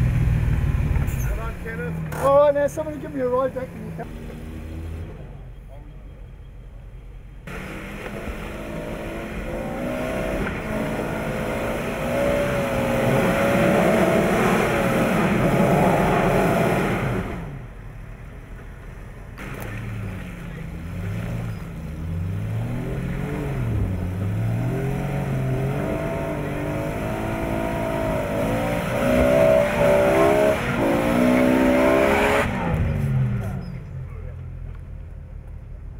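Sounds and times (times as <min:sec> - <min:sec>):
off-road vehicle engine revving: 0:00.0 - 0:05.6, 0:07.4 - 0:17.8, 0:19.4 - 0:34.5.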